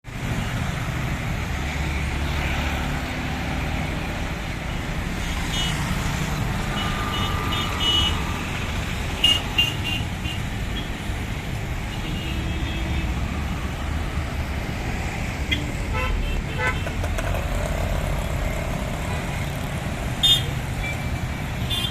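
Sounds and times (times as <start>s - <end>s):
road traffic rumble: 0.0s - 21.9s.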